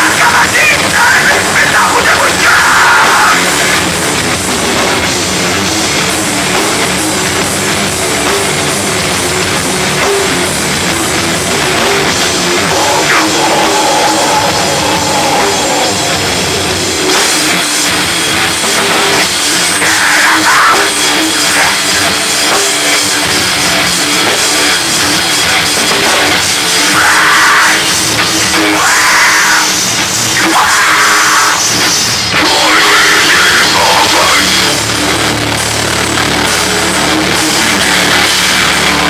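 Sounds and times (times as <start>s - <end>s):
harsh shouted vocals: 0.0s - 7.4s, 11.6s - 23.3s, 24.1s - 39.0s
metal band playing live: 0.0s - 39.0s.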